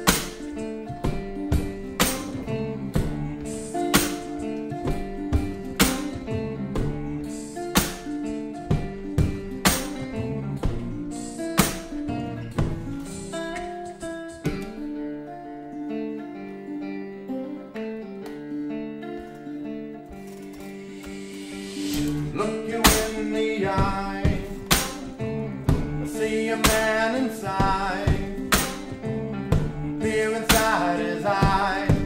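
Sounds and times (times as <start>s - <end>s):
acoustic guitar: 0.0s - 32.0s.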